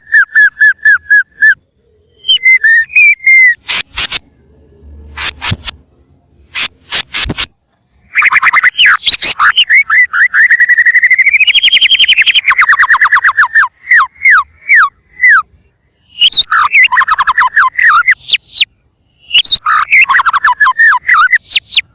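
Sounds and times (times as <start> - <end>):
songbird trilling and whistling: 0.0 - 21.9.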